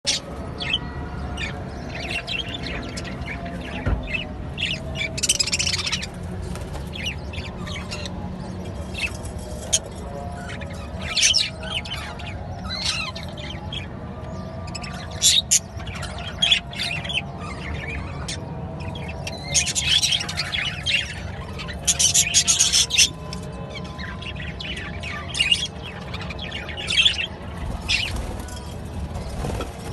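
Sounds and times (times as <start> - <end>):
budgerigars chirping and chattering: 1.4 - 29.9.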